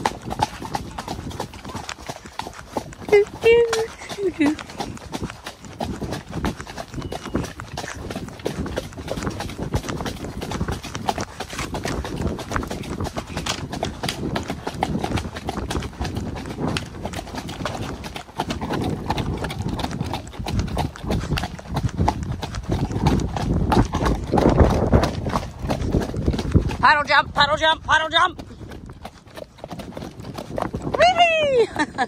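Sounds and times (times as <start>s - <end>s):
horse hoofbeats: 0.0s - 32.0s.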